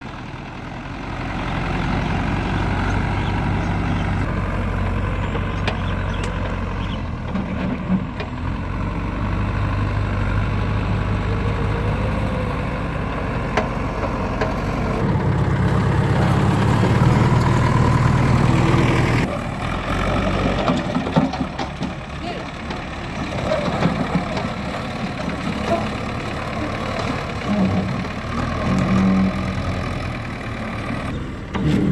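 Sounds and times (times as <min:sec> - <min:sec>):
diesel engine idling and revving: 0:00.0 - 0:31.9.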